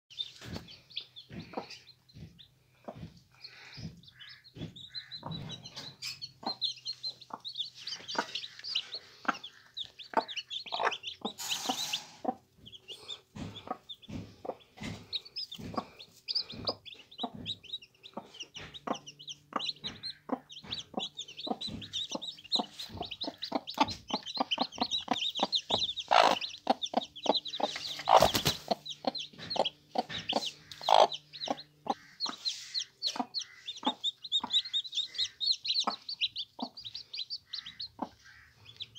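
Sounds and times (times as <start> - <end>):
chicks peeping: 0.1 - 38.9
hen clucking: 0.1 - 38.9.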